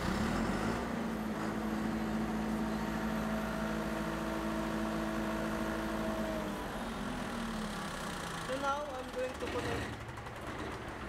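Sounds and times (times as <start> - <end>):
diesel generator running: 0.0 - 11.0.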